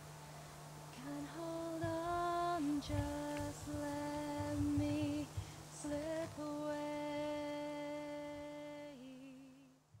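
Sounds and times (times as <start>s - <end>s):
woman singing long notes: 1.0s - 9.8s.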